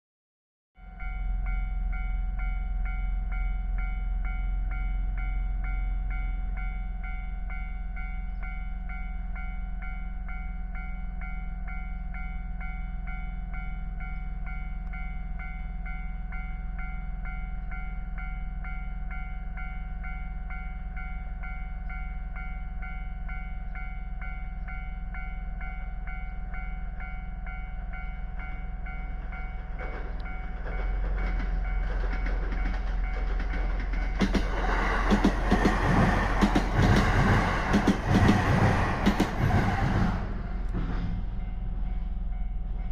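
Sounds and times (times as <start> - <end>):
electric train passing: 0.8 - 42.9
level-crossing bell clanging: 0.8 - 42.9.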